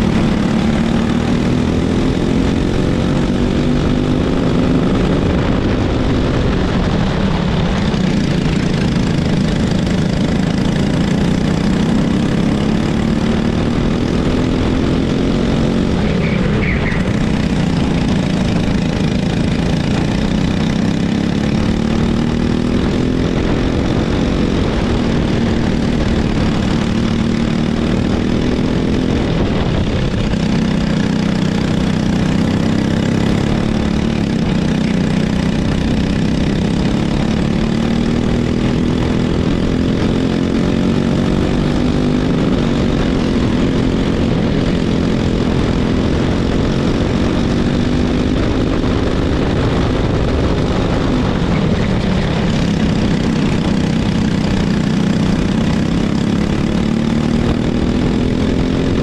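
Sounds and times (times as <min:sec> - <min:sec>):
kart engine revving: 0:00.0 - 0:59.0.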